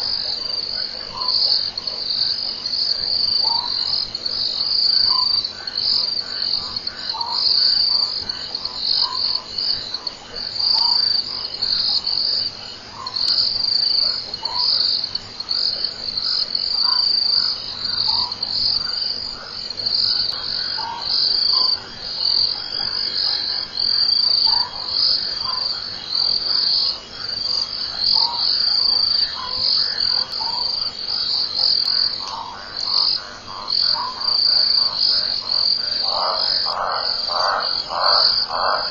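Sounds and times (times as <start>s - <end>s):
crickets trilling: 0.0s - 38.9s
frog calls: 0.0s - 38.9s.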